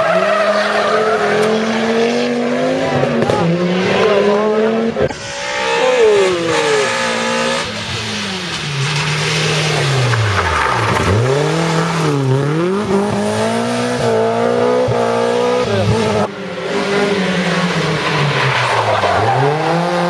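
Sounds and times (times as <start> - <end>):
car engine revving hard: 1.2 - 17.8, 19.2 - 20.0.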